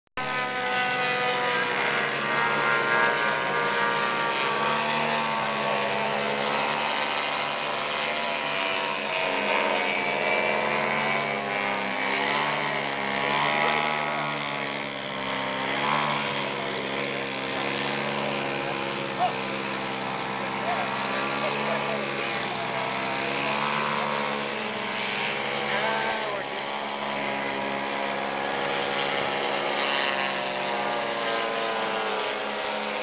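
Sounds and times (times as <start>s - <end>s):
model airplane engine and propeller: 0.2s - 33.0s.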